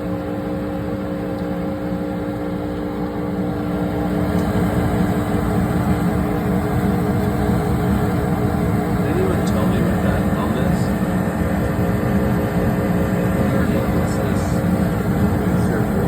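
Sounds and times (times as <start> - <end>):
furnace humming: 0.0 - 16.0.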